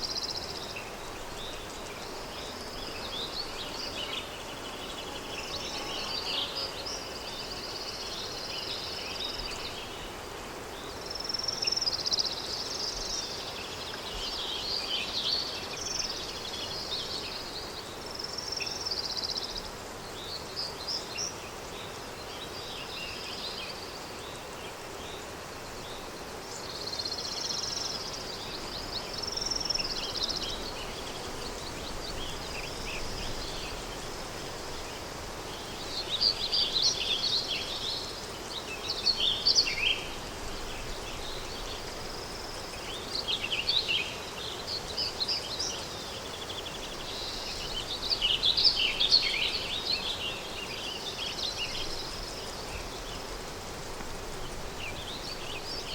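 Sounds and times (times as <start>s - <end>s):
wind hiss: 0.0s - 55.9s.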